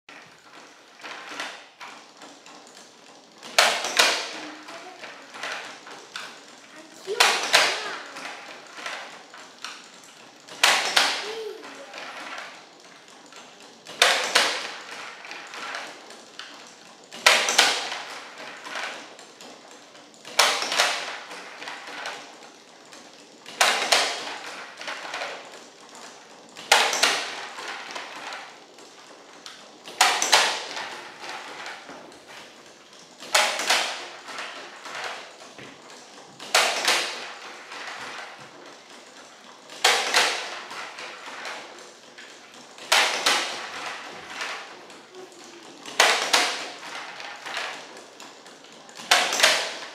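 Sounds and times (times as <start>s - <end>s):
crank clicking: 0.1s - 49.9s
wooden knocks and clatter: 0.1s - 49.9s.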